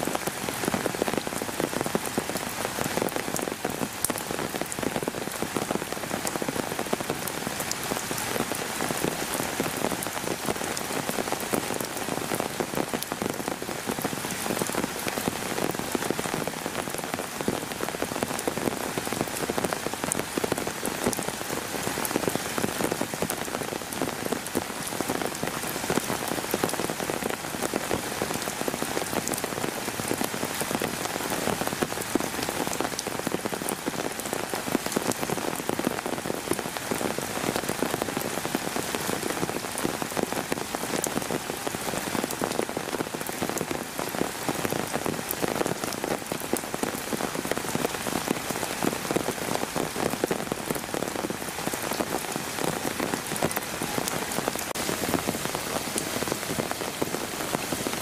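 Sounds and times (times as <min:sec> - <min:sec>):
heavy rain falling: 0:00.0 - 0:58.0
raindrops ticking close by: 0:00.0 - 0:58.0.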